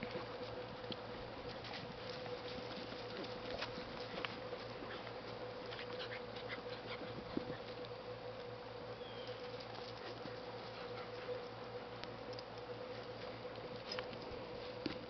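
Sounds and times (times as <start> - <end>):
dogs scuffling on dirt: 0.0 - 15.0
faint hum: 0.0 - 15.0.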